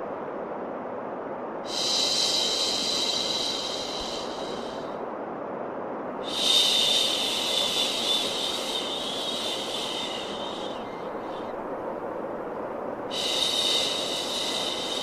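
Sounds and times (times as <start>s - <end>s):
low white noise hiss: 0.0s - 15.0s.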